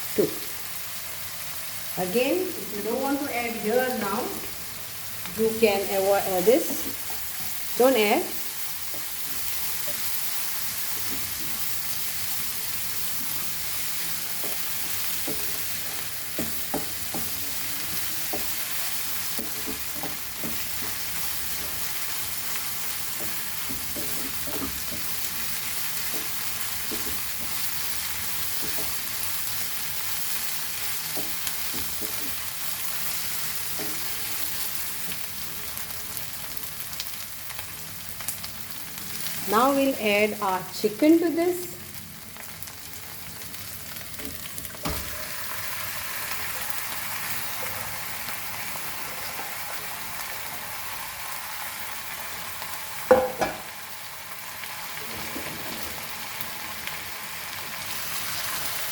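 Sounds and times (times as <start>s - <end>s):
onions sizzling in oil: 0.0s - 58.9s.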